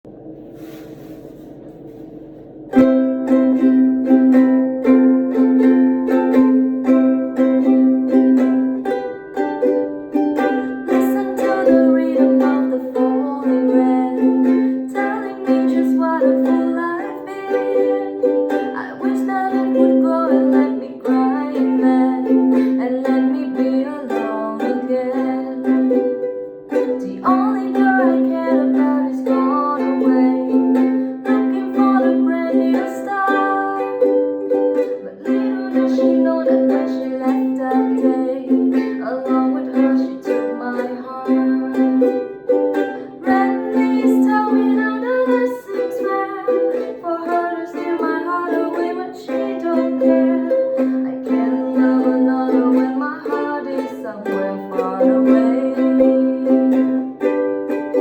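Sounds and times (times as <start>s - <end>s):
ukulele playing: 0.0s - 58.0s.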